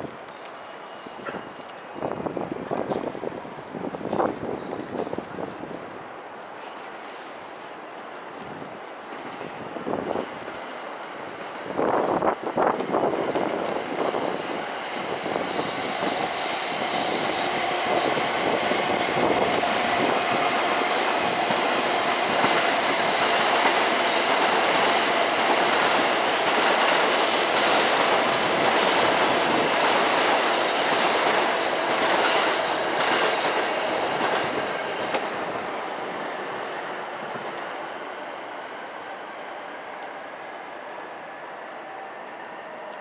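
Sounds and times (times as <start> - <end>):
trains running over rails: 0.0 - 43.0.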